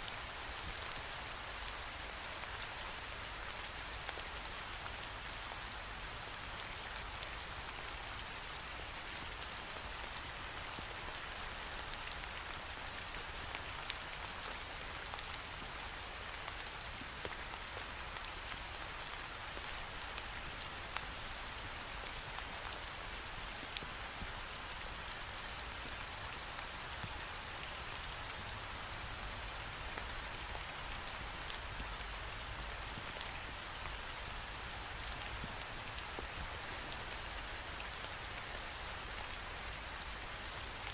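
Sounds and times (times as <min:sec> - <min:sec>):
rain on a window pane: 0:00.1 - 0:40.9.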